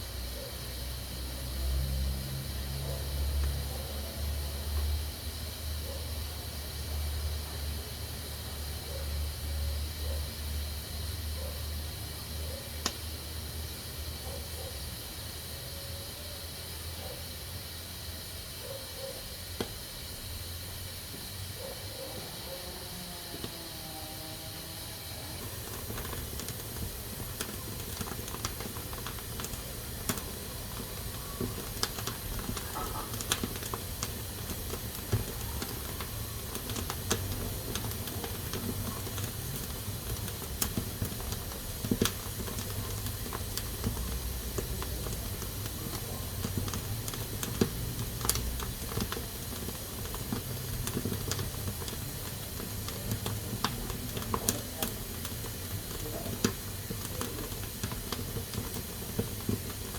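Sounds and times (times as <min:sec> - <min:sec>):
pressure cooker steam hissing: 0:00.0 - 0:59.9.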